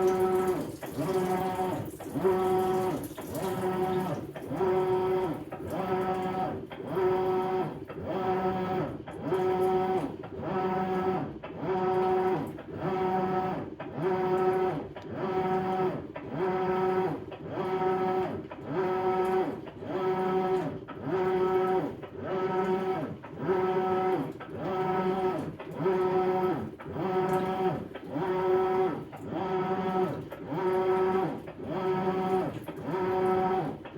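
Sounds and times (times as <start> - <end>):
washing machine motor whining: 0.0 - 33.9.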